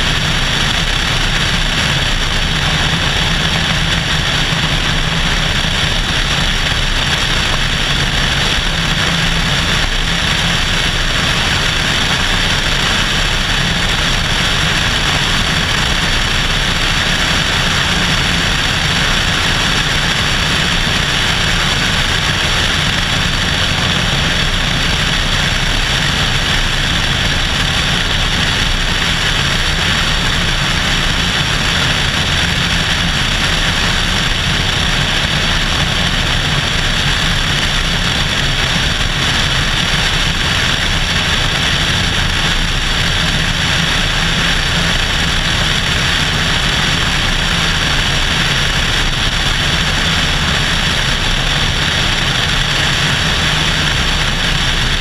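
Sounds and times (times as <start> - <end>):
airplane engine droning: 0.0 - 55.0
rushing airflow: 0.0 - 55.0.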